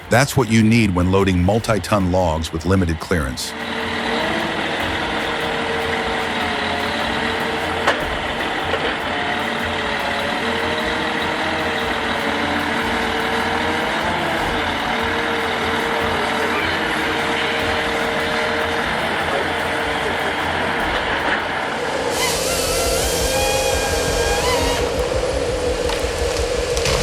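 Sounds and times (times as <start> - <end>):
whining tone: 0.0 - 27.0
truck engine and crane hydraulics: 3.5 - 27.0.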